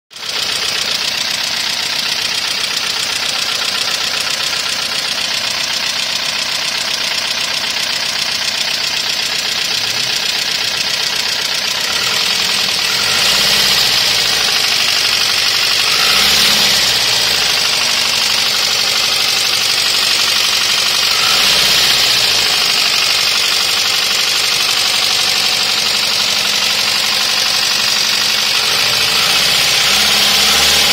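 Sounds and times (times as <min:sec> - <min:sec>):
engine running with tapping clatter: 0:00.1 - 0:30.9.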